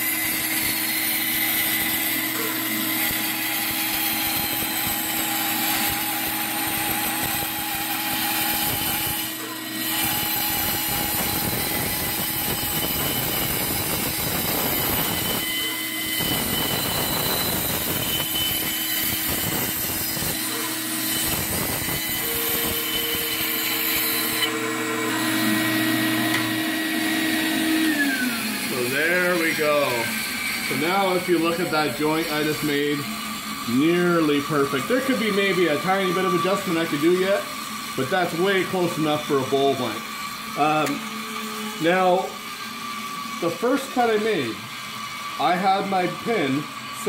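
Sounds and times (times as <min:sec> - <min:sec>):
bandsaw cutting wood: 0:00.0 - 0:47.0.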